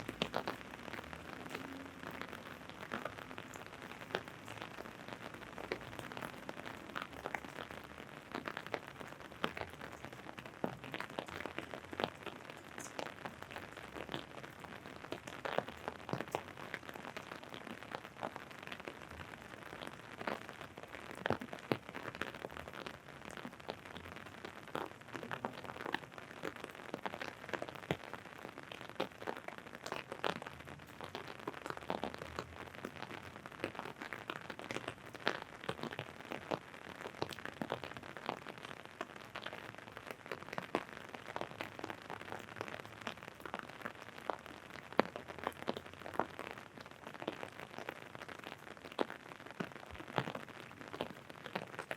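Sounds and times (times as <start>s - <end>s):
rain pattering on umbrella: 0.0s - 51.9s.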